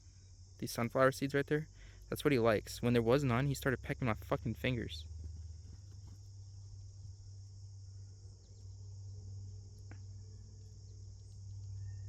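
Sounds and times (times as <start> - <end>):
crickets chirping: 0.0 - 12.0
low steady hum: 0.0 - 12.0.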